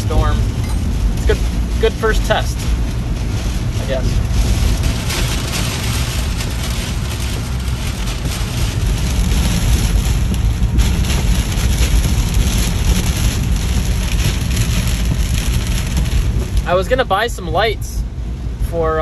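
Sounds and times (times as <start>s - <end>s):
rain beating on car: 0.0s - 19.0s
road and engine rumble: 0.0s - 19.0s.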